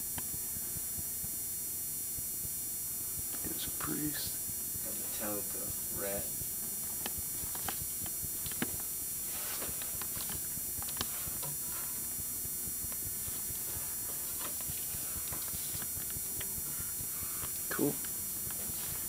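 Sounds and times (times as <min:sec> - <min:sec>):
camcorder hiss and hum: 0:00.0 - 0:19.0.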